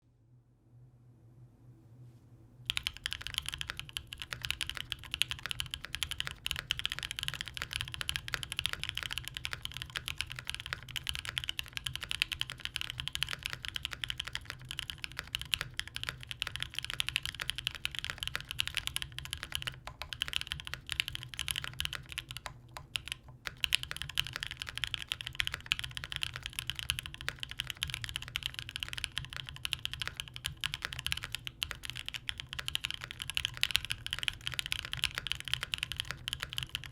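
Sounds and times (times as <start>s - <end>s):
fast typing on mechanical keyboard: 2.7s - 36.9s.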